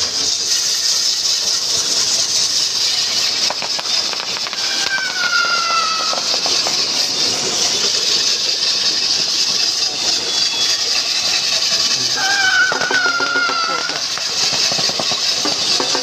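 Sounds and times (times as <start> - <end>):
high squeal sliding down: 0.0 - 16.0
rattling clatter of wheeled frame: 0.0 - 16.0.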